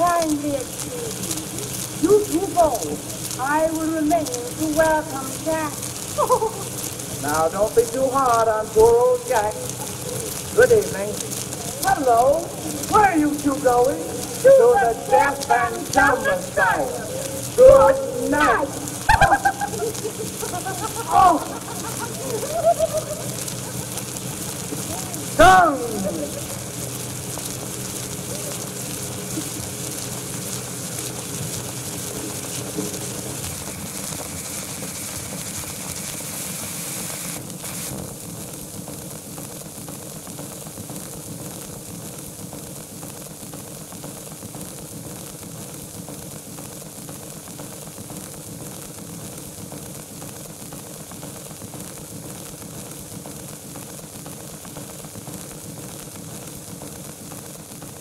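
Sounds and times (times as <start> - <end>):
phonograph surface hiss and crackle: 0.0 - 58.0.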